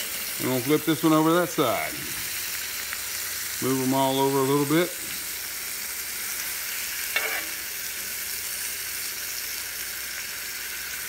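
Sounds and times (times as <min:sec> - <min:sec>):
fish sizzling in skillet: 0:00.0 - 0:11.0.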